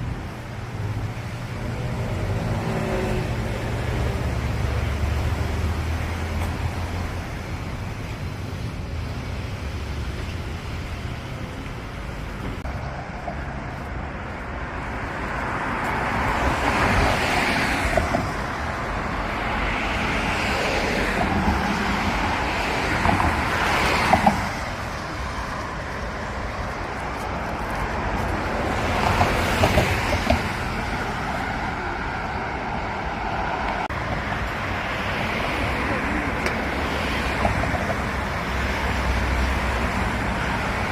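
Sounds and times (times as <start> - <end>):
road traffic: 0.0 - 40.9
vehicles passing by: 0.0 - 40.9.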